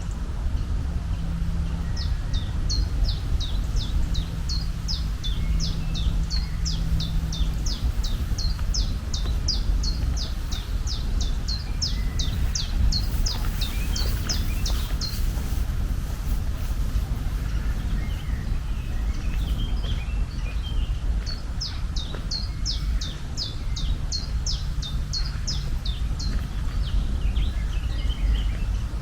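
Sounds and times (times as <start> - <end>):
low rumble: 0.0 - 29.0
bird chirping: 0.1 - 29.0.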